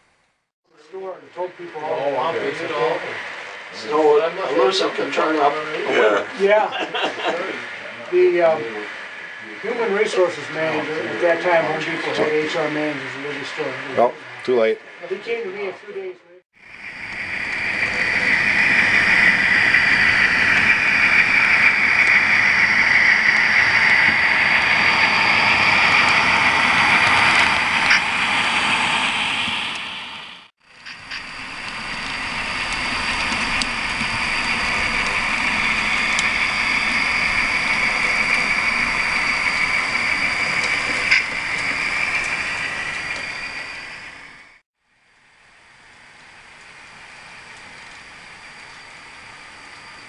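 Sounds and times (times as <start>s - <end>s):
model locomotive engine drone: 0.8s - 50.0s.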